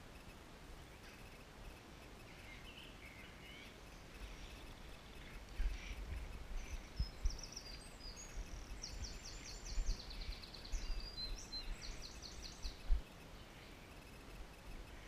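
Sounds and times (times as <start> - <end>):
songbird singing trills: 2.2 - 14.2.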